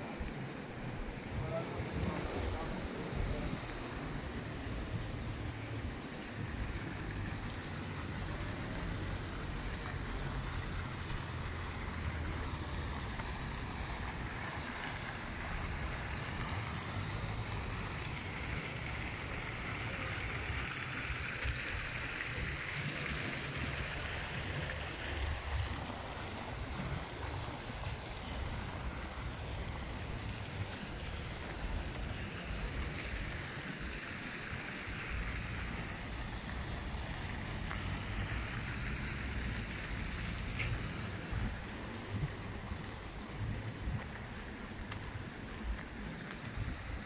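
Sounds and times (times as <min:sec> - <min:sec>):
rushing water hiss: 0:00.0 - 0:47.0.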